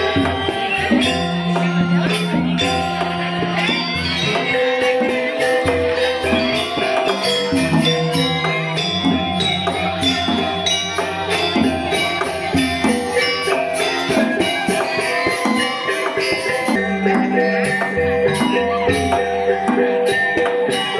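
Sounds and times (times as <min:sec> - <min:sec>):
metallophones playing: 0:00.0 - 0:20.9
small cymbals jingling: 0:00.0 - 0:20.9.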